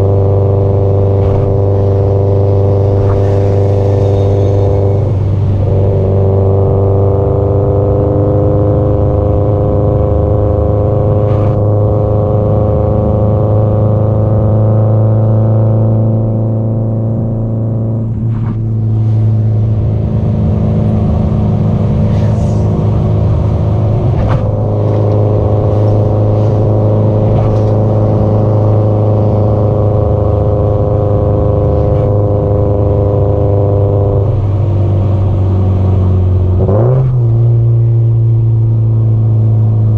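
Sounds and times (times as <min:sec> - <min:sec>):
car engine and exhaust: 0:00.0 - 0:39.9.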